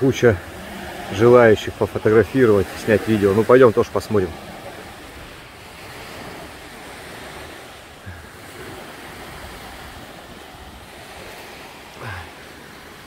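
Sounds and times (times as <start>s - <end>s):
waves washing onto sand: 0.0s - 13.0s.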